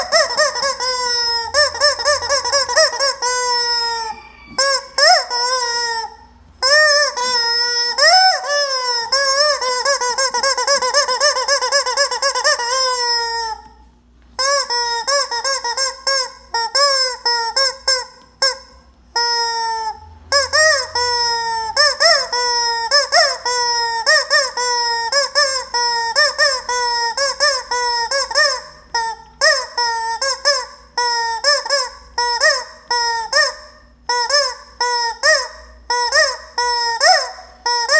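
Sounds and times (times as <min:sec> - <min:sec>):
rubber chicken toy squawking: 0:00.0 - 0:13.8, 0:14.4 - 0:37.9.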